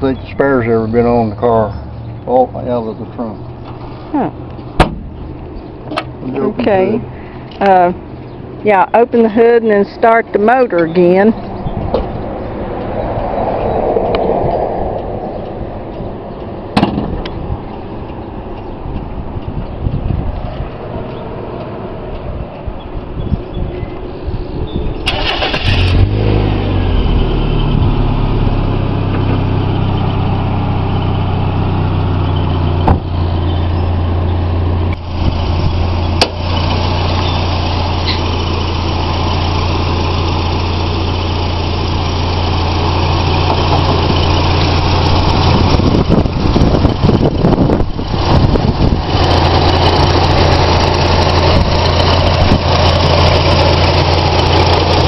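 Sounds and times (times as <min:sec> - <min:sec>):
car engine starting and idling: 0:00.0 - 0:23.2, 0:24.9 - 0:55.0.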